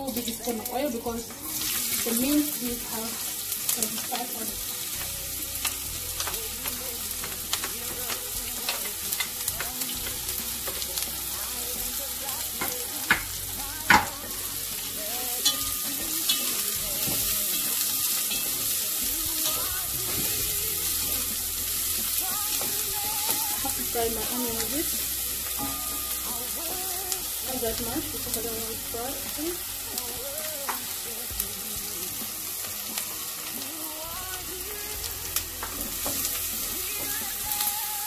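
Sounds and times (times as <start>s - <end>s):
onions sizzling in oil: 0.0s - 38.0s.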